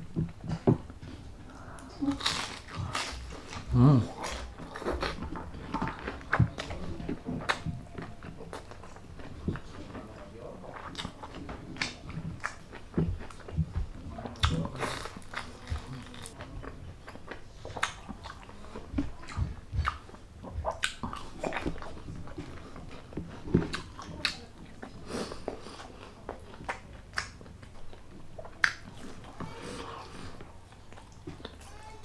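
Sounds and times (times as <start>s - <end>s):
crunchy chewing: 0.2s - 32.0s.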